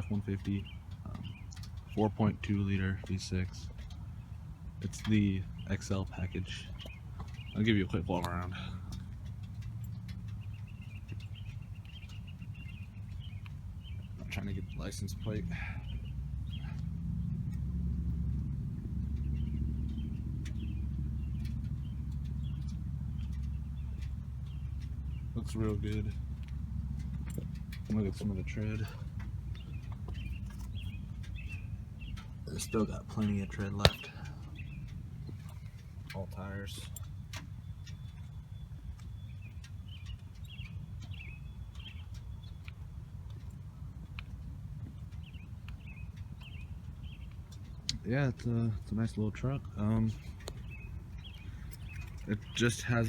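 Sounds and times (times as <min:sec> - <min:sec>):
bird chirps: 0:00.0 - 0:48.0, 0:48.7 - 0:53.0
low rumble: 0:00.0 - 0:53.0.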